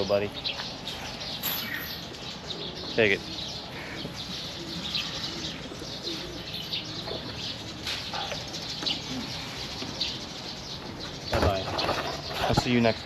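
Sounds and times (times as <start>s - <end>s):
birds chirping: 0.0s - 13.0s
dove-like cooing: 1.4s - 12.6s.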